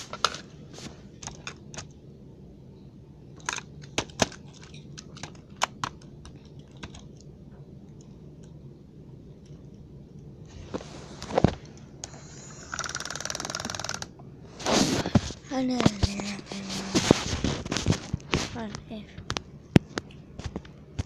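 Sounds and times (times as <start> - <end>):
faint background hum: 0.0 - 21.0.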